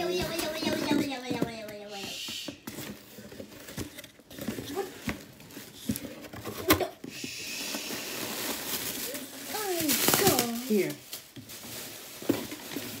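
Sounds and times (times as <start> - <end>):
cardboard rustling: 0.0 - 13.0.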